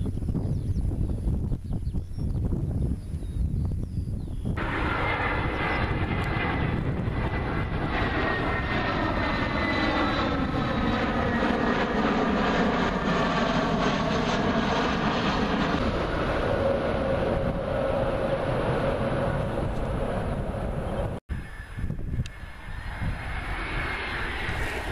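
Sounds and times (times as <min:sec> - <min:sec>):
jet airliner passing overhead: 0:00.0 - 0:24.9.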